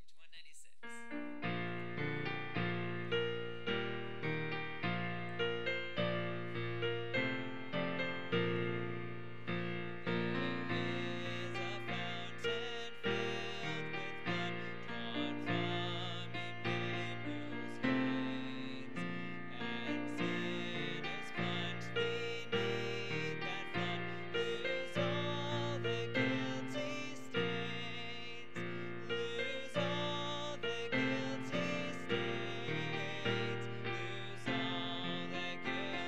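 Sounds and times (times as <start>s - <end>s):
slow piano music: 1.0s - 36.0s.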